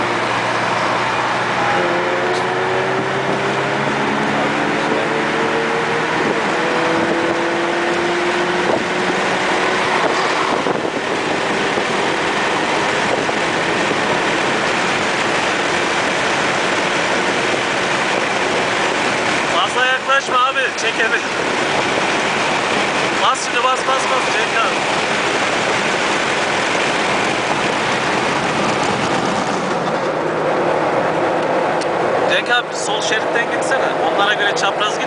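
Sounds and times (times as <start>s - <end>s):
car engine accelerating hard: 0.0s - 35.0s
road and wind noise: 0.0s - 35.0s.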